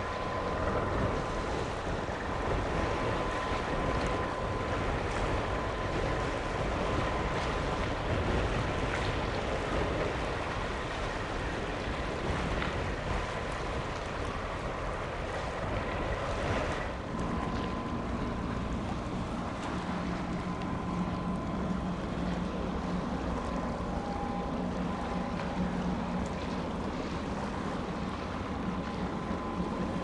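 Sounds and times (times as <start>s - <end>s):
boat engine hum: 0.0s - 30.0s
waterside noise: 0.0s - 30.0s
wind buffeting microphone: 0.0s - 30.0s.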